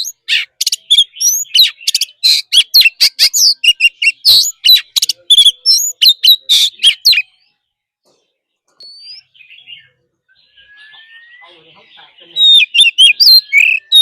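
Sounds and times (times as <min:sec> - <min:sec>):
bird whistled song: 0:00.0 - 0:07.6, 0:08.8 - 0:14.0
faint bird chatter: 0:00.0 - 0:14.0.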